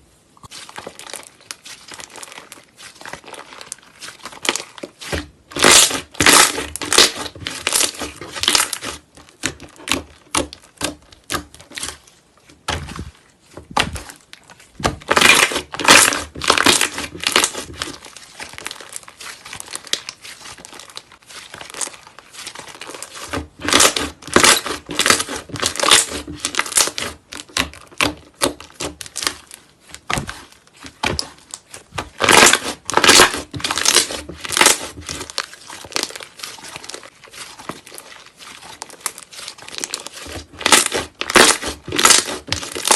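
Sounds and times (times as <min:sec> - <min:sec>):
slime squeezed crackling and popping: 0:00.4 - 0:13.0, 0:13.7 - 0:42.9.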